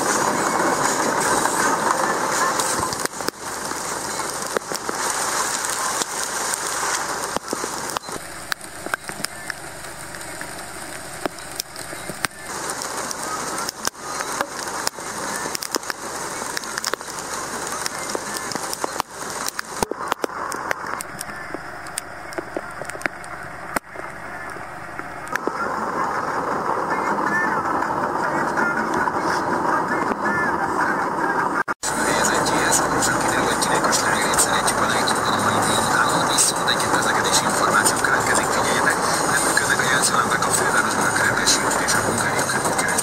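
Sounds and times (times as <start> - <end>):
raindrops ticking near microphone: 0.0 - 30.3, 31.8 - 43.0
heavy rain hissing: 0.0 - 43.0.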